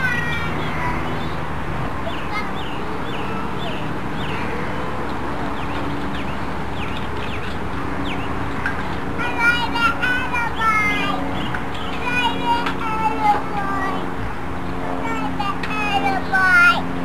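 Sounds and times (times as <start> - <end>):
small birds chirping: 0.0 - 16.5
steady low hum: 0.0 - 17.0.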